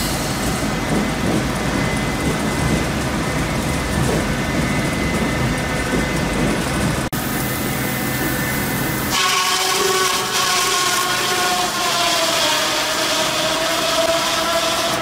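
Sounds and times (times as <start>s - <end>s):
sawmill conveyor clatter: 0.9s - 15.0s.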